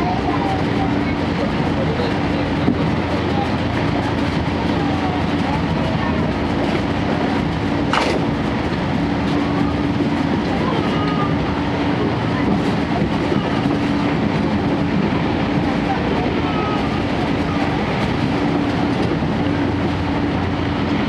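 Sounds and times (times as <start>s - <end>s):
diesel generator engine hum: 0.0s - 21.0s
wheels rumbling on rail: 0.0s - 21.0s.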